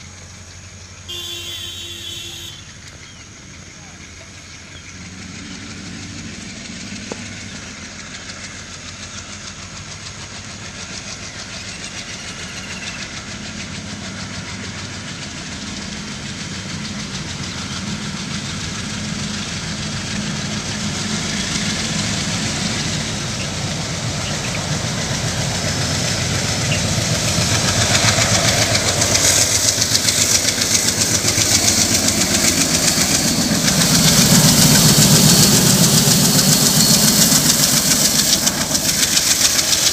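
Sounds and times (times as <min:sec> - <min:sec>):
diesel locomotive engine chugging: 0:00.0 - 0:39.9.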